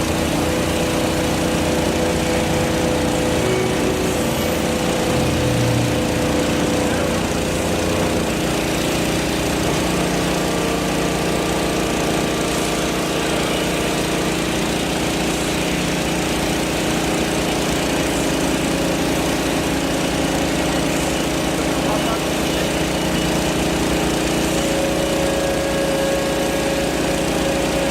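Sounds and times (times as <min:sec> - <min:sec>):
engine running steadily: 0:00.0 - 0:27.9.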